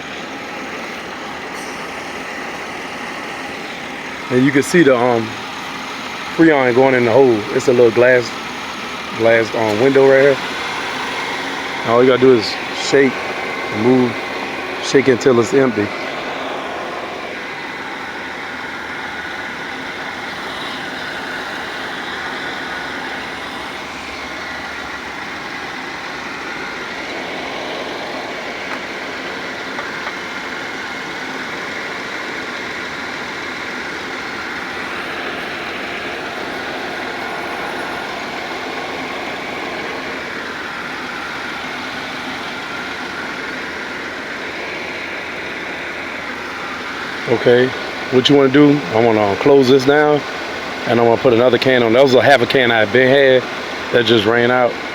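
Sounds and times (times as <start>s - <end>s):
air conditioning running: 0.0s - 54.9s
car engine idling: 0.0s - 54.9s.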